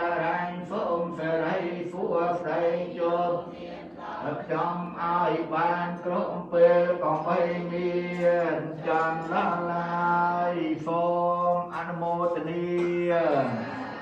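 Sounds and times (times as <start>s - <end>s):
monks chanting in unison: 0.0s - 14.0s.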